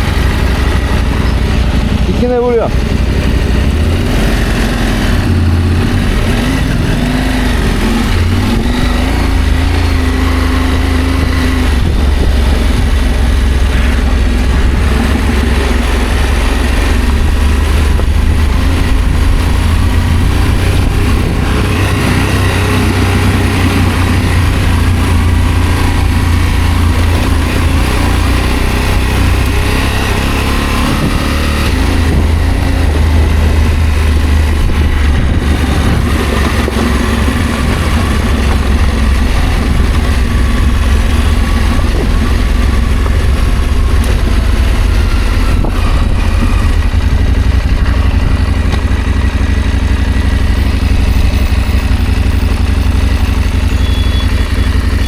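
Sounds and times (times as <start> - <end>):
steady rush of noise: 0.0 - 54.9
motorcycle engine running: 0.0 - 55.0.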